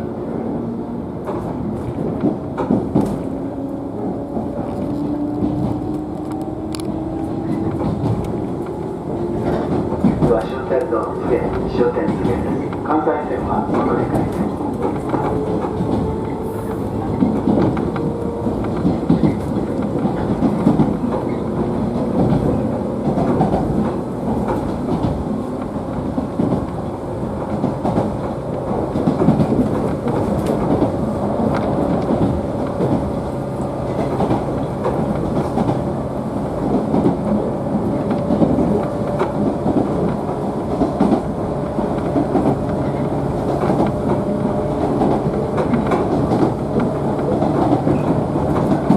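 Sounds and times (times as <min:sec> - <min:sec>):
train running noise: 0:00.0 - 0:48.9
wheels clacking over rail joints: 0:04.2 - 0:48.9.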